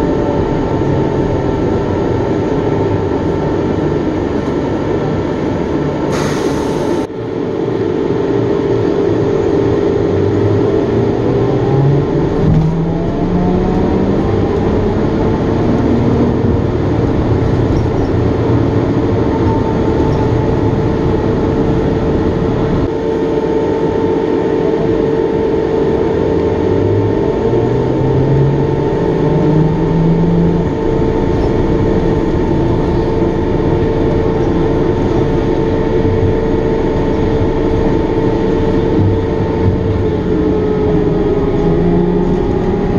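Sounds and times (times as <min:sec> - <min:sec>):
cooling fan drone: 0:00.0 - 0:42.9.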